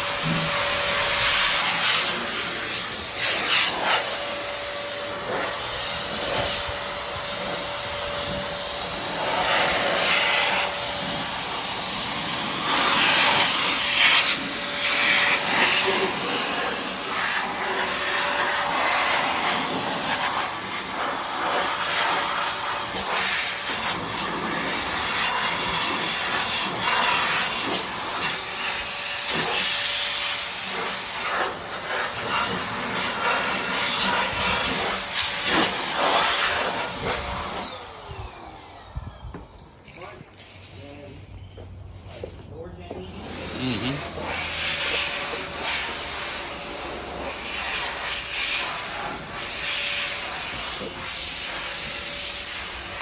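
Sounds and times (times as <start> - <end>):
electric machine whining: 0.0 - 53.0.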